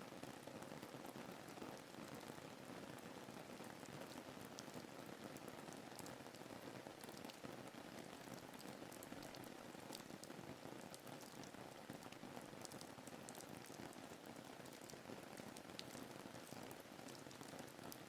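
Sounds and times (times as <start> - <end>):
soft steady rain patter: 0.0 - 18.0.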